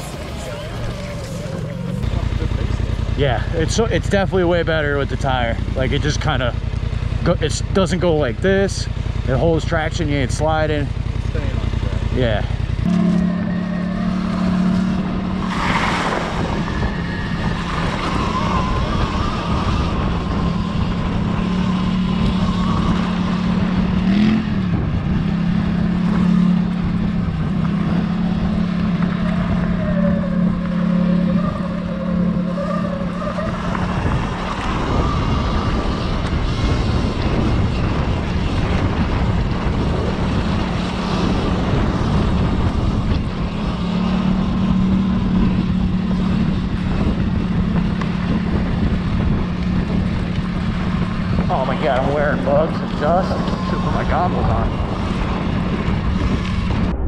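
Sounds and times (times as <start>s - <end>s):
off-road vehicle motor: 0.0s - 57.0s
wind and trail noise: 0.0s - 57.0s.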